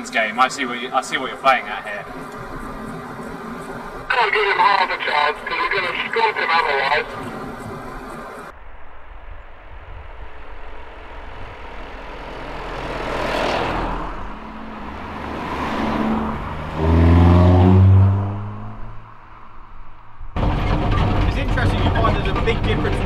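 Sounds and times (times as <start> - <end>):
cars passing at speed: 0.0 - 20.5.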